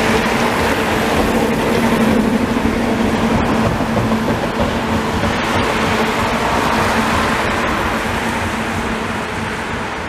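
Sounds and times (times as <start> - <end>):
tyres hissing on wet road: 0.0 - 10.0
vehicle engine drone: 0.0 - 10.0.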